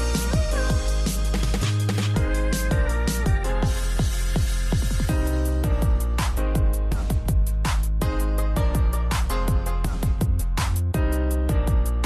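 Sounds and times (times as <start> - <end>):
electronic music with heavy beat: 0.0 - 12.0.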